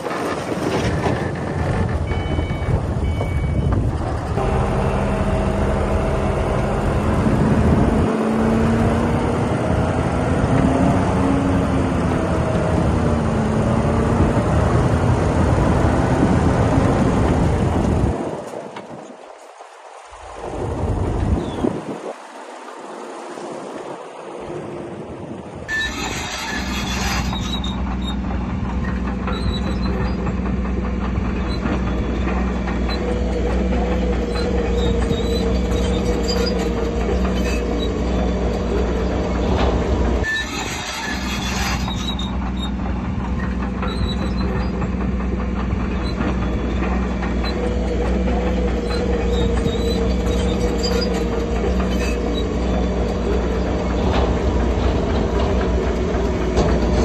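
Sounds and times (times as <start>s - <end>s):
bulldozer diesel engine: 0.0s - 19.0s, 20.0s - 57.0s
steel tracks clanking: 0.0s - 21.6s, 25.3s - 57.0s.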